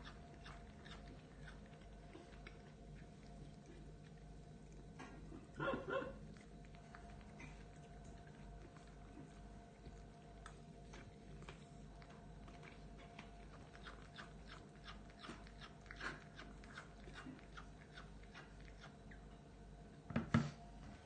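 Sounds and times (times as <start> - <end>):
cat chewing food: 0.0 - 20.1.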